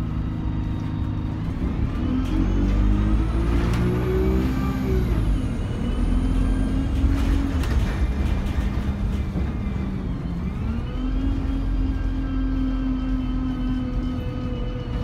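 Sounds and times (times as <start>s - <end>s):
bus diesel engine drone: 0.0s - 15.0s
low road rumble: 0.0s - 15.0s.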